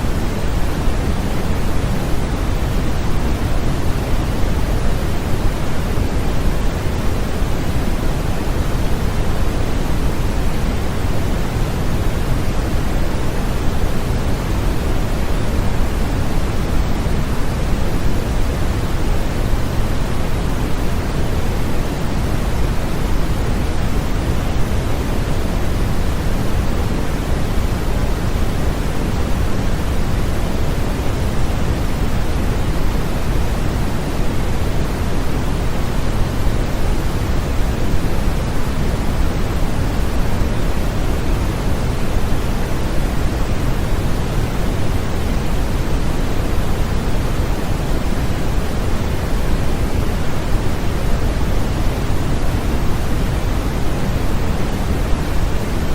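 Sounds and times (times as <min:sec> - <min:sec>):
steady pink noise hiss: 0:00.0 - 0:55.9.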